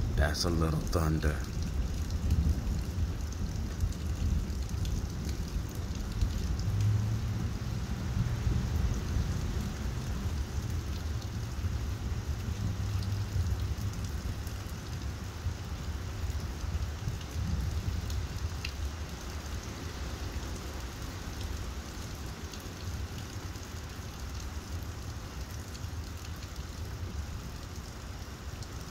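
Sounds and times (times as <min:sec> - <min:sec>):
steady rain falling: 0:00.0 - 0:28.9
faint drip ticks: 0:00.6 - 0:28.9.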